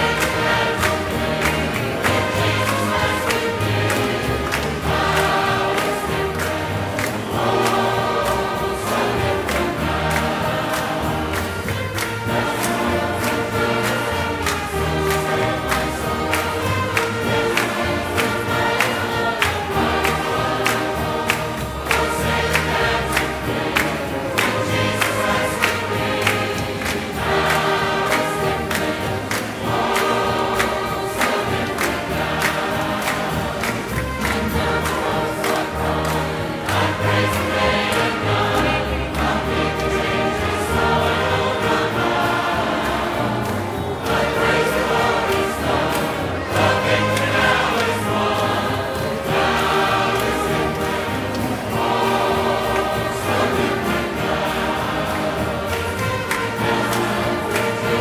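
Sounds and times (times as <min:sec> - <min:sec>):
choir and congregation singing: 0:00.0 - 0:58.0
instrumental accompaniment with bass: 0:00.0 - 0:58.0.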